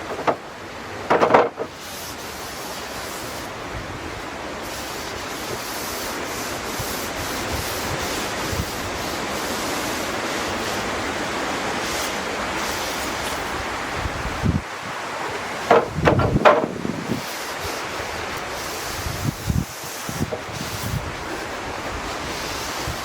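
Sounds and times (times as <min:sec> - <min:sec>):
brush scratching over wood: 0:01.2 - 0:03.6, 0:04.6 - 0:23.0.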